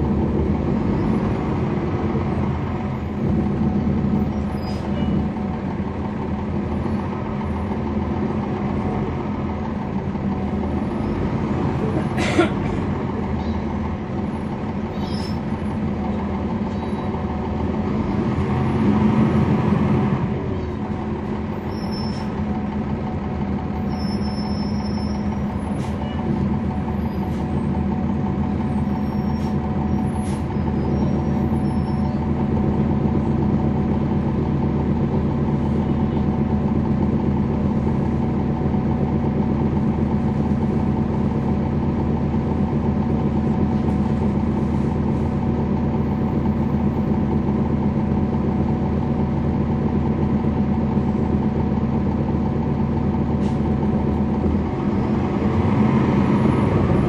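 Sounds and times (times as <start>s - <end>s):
bus diesel engine hum: 0.0s - 57.0s.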